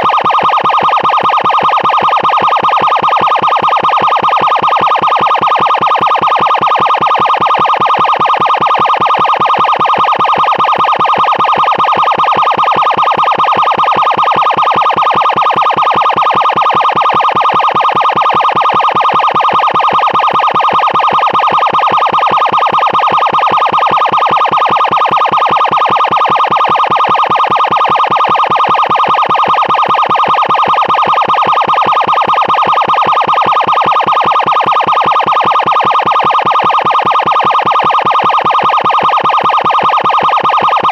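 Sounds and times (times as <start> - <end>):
emergency siren pulsing: 0.0 - 40.9.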